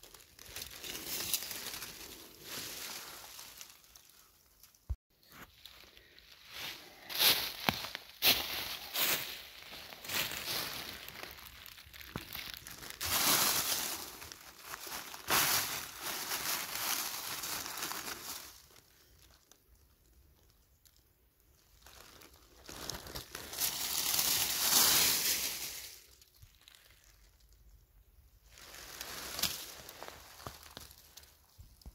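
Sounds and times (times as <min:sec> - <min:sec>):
dry leaves crunching and rustling: 0:00.0 - 0:04.7, 0:05.4 - 0:19.5, 0:21.8 - 0:27.2, 0:28.5 - 0:31.6.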